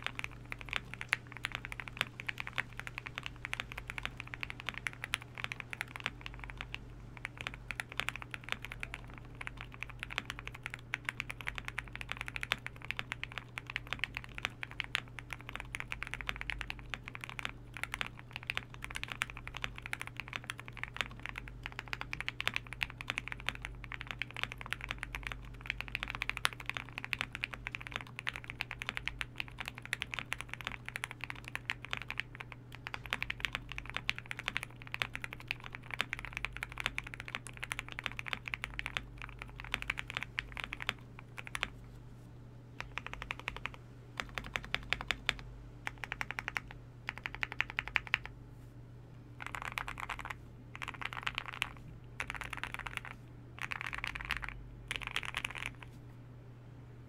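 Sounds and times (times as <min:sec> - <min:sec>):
mechanical keyboard typing: 0:00.0 - 0:41.8, 0:42.8 - 0:48.3, 0:49.4 - 0:55.9
faint low hum: 0:00.0 - 0:57.0.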